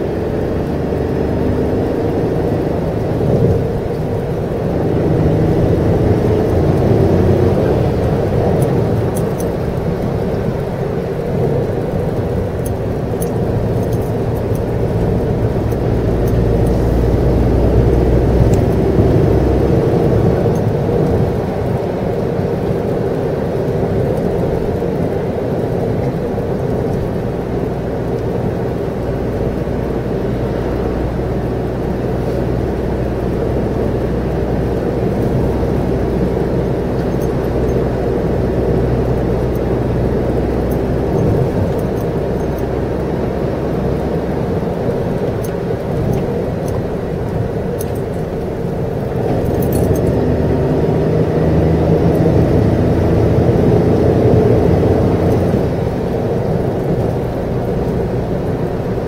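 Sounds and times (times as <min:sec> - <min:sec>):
car engine cruising: 0:00.0 - 0:59.0
tyres rumbling on road: 0:00.0 - 0:59.0.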